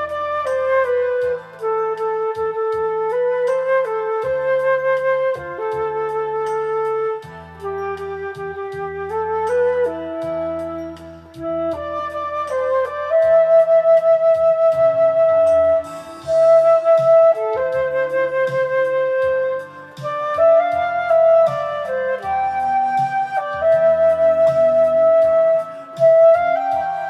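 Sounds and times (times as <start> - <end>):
flute playing pop melody: 0.0 - 27.0
midi backing track: 0.0 - 27.0.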